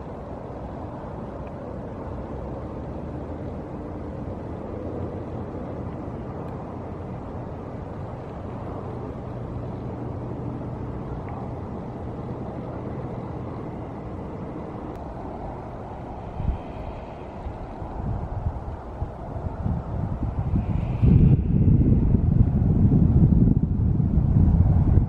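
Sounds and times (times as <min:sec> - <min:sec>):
faint constant hum: 0:00.0 - 0:25.0
low outdoor rumble: 0:00.0 - 0:25.0.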